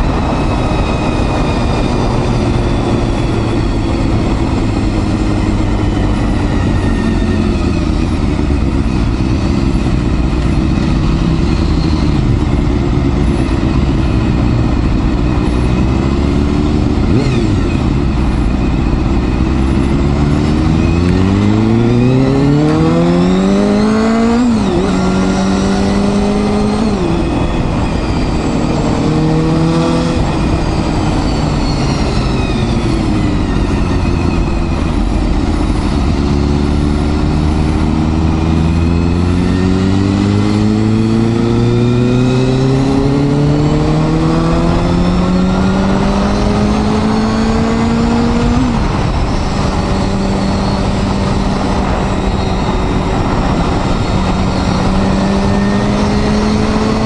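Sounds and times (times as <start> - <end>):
motorcycle engine revving: 0.0 - 57.0
steady rushing noise: 0.0 - 57.0.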